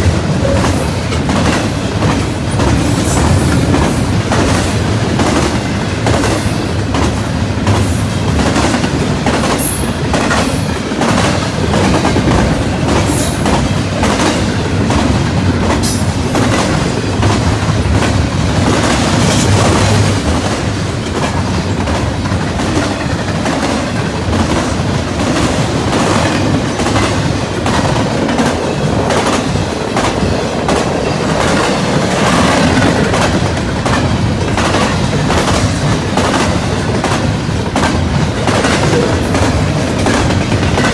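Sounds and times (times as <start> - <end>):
freight train cars rolling past: 0.0 - 40.9
wheels clacking over rail joints: 0.0 - 40.9.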